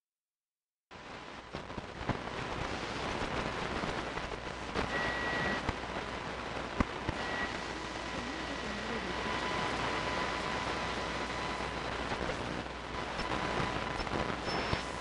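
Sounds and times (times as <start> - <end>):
hiss with crackles and clicks: 0.9 - 15.0.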